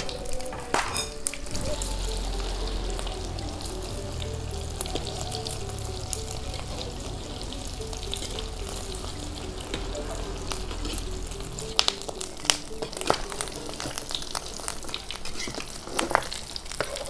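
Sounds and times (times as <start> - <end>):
background music melody: 0.0 - 16.8
food frying sizzle: 1.2 - 17.0.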